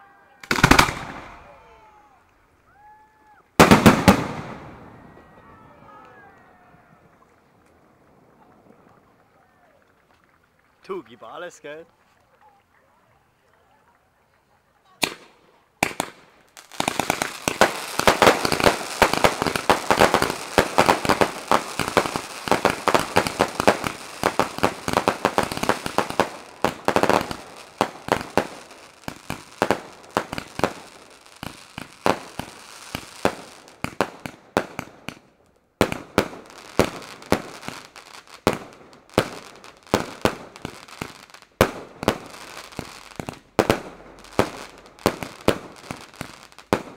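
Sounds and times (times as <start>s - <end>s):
fireworks banging and crackling: 0.4s - 1.7s, 2.8s - 12.7s, 14.2s - 46.9s.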